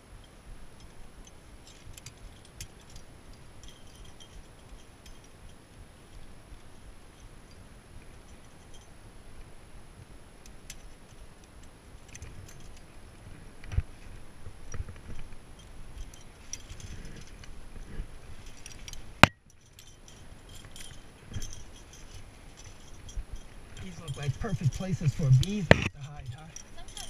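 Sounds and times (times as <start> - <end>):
climbing hardware clinking: 0.2 - 9.0, 10.4 - 13.0, 13.7 - 27.0.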